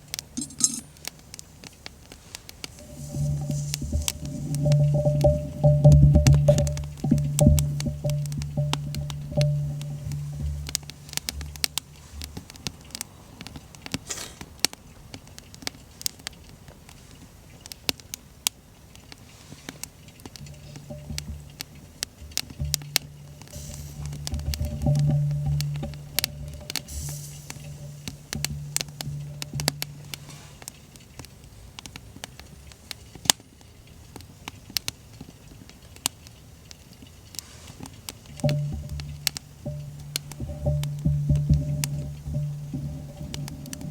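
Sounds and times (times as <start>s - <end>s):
faint hiss: 0.0s - 43.9s
wood fire crackling: 0.0s - 43.9s.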